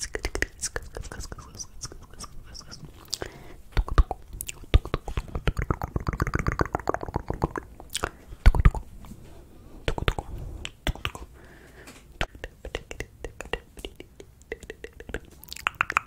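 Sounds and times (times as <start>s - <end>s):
wet lip and tongue clicks: 0.0s - 8.9s, 9.9s - 11.3s, 12.2s - 16.0s.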